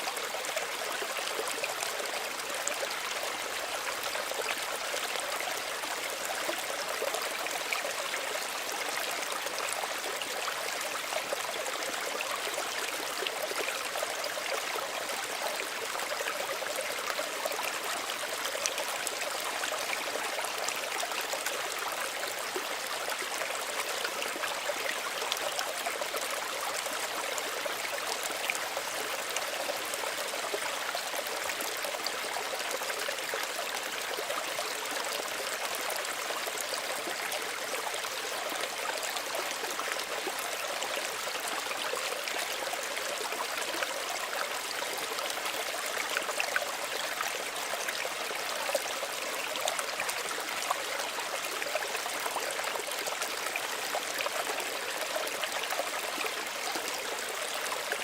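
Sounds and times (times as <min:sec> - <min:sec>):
stream babbling and trickling: 0:00.0 - 0:58.0.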